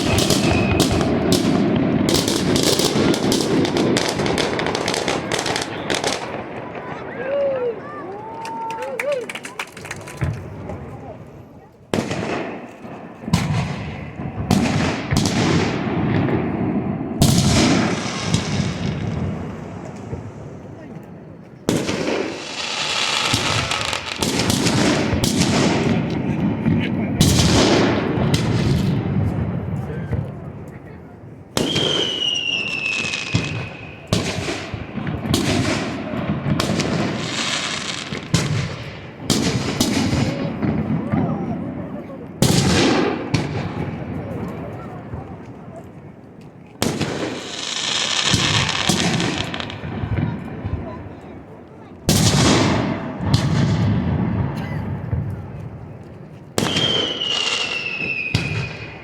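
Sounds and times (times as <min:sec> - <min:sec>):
fireworks booming: 0:00.0 - 0:08.0, 0:11.9 - 0:59.0.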